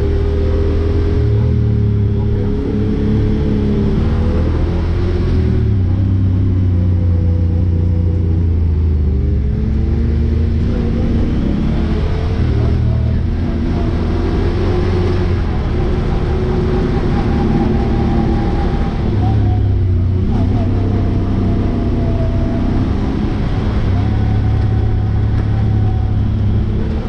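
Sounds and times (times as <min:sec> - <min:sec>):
utility vehicle engine revving: 0:00.0 - 0:27.0.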